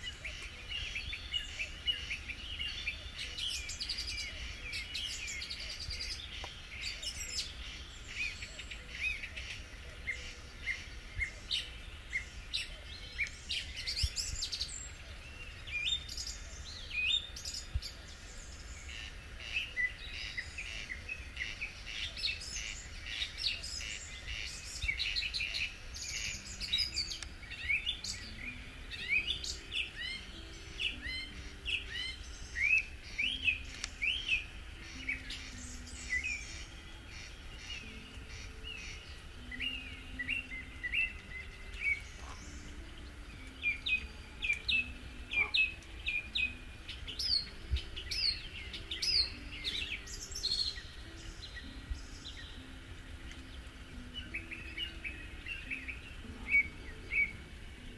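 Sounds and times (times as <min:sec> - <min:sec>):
birds chirping and trilling: 0:00.0 - 0:57.9
faint low notes: 0:00.0 - 0:57.9.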